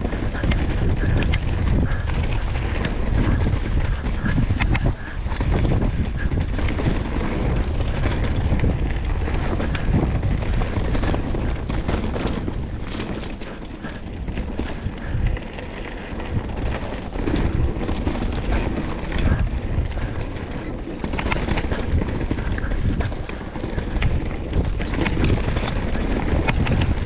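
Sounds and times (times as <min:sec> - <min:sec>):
bike knocking and rattling: 0:00.0 - 0:27.0
wind rumble on microphone: 0:00.0 - 0:27.0.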